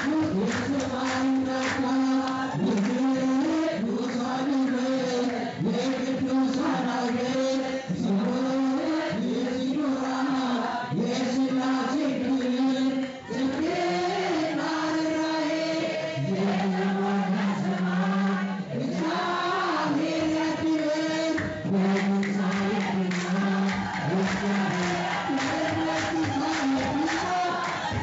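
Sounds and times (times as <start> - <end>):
group chanting in unison: 0.0 - 28.0.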